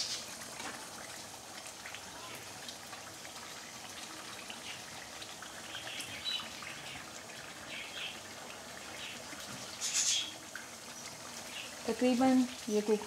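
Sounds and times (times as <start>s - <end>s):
curry sizzling and bubbling: 0.0s - 13.0s.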